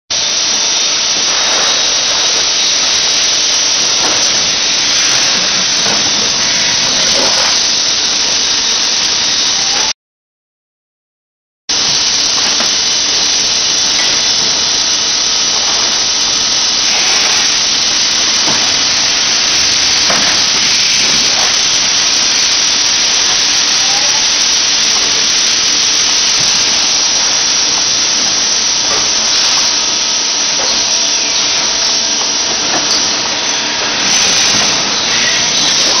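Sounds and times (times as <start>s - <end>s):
machine hissing: 0.1s - 9.9s, 11.7s - 36.0s.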